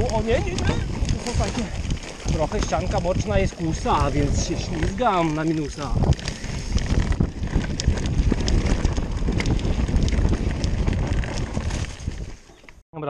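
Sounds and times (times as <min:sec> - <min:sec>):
bike rattling over bumps: 0:00.0 - 0:12.8
bike tyres rumbling on dirt: 0:00.0 - 0:12.8
wind on microphone: 0:00.0 - 0:12.8.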